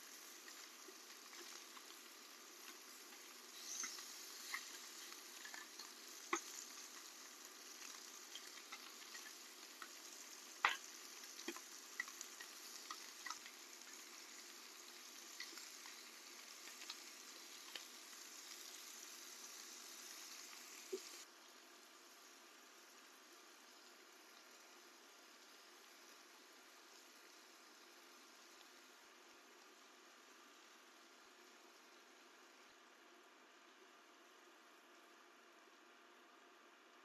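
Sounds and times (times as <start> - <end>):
meat sizzling on a grill pan: 0.0 - 34.5.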